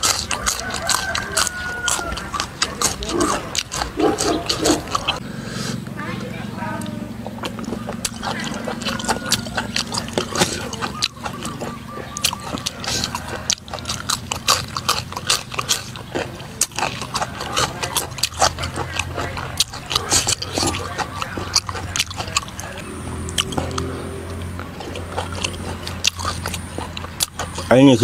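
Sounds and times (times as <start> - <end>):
mouth clicks: 0.0 - 6.0, 6.6 - 28.0
person chewing wetly: 0.0 - 6.1, 6.7 - 28.0
low steady hum: 0.0 - 28.0.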